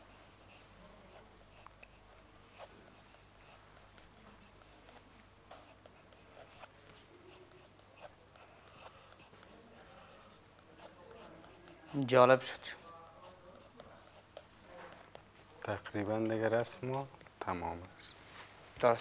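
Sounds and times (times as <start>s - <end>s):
pencil scratching on paper: 0.0s - 18.0s.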